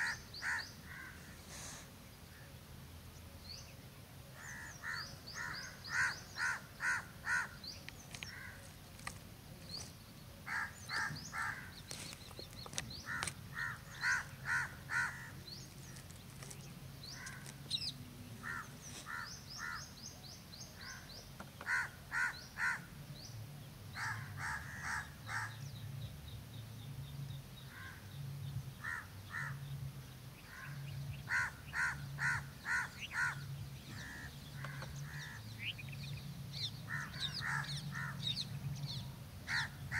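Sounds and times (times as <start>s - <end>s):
birds calling: 0.0s - 2.7s, 3.5s - 39.9s
small birds chirping: 0.0s - 39.9s.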